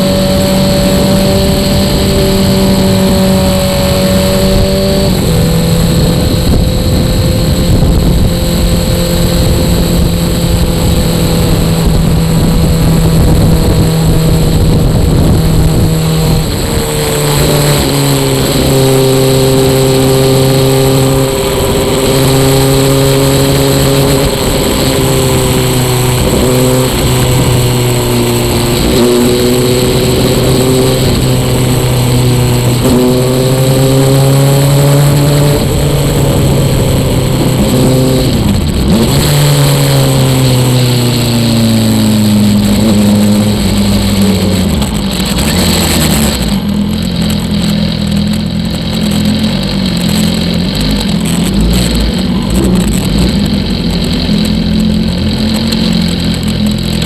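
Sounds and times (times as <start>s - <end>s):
wind rush: 0.0s - 46.7s
motorcycle engine at high revs: 0.0s - 57.0s.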